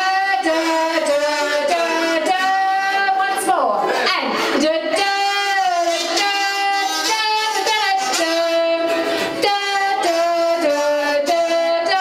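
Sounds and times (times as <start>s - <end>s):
kazoo melody: 0.0s - 12.0s.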